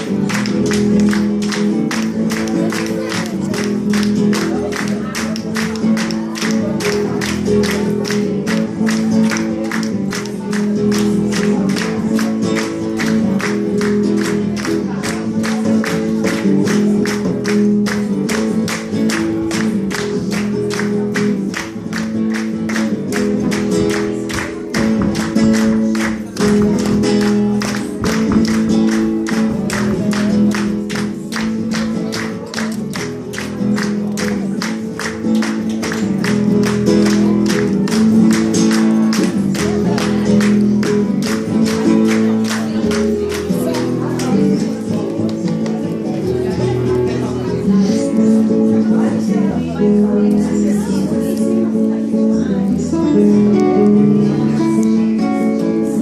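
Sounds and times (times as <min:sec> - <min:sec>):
viola strumming: 0:00.0 - 0:56.0.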